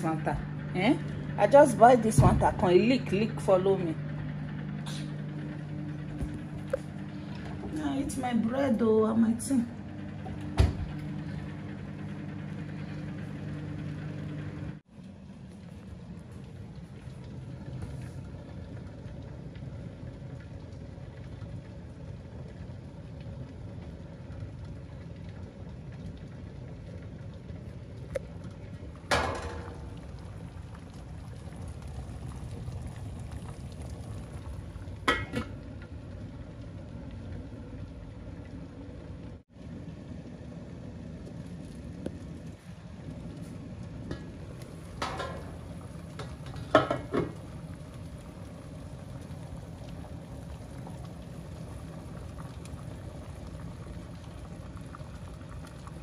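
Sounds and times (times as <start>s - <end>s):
water boiling in pots: 0.0s - 56.0s.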